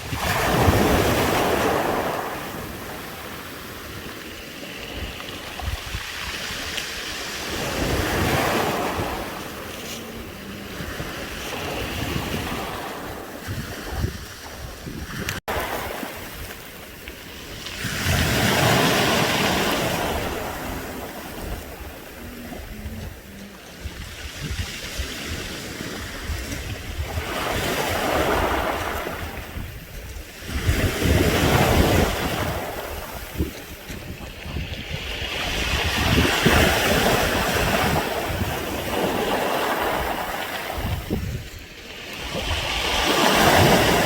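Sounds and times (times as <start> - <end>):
waves washing over pebbles: 0.0 - 44.0.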